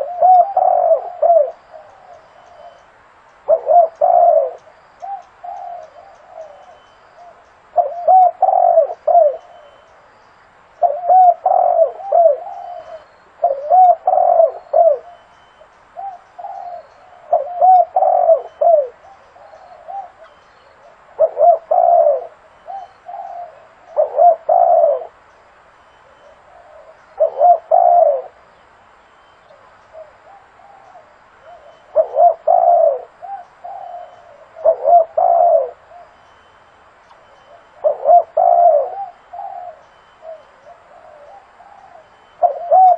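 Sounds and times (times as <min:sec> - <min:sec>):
dove cooing: 0:00.0 - 0:10.0, 0:10.8 - 0:25.2, 0:26.0 - 0:28.4, 0:29.4 - 0:42.9.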